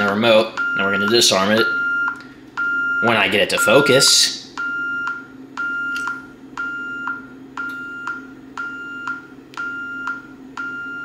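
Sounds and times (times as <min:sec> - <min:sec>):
security keypad beeping: 0:00.6 - 0:11.0.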